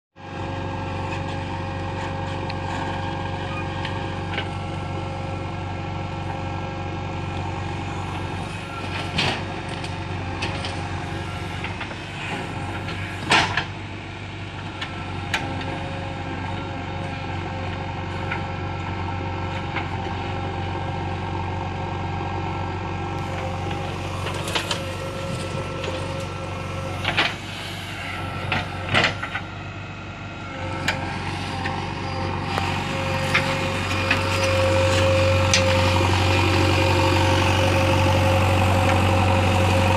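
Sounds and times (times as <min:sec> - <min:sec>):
diesel machinery running: 0:00.2 - 0:39.9.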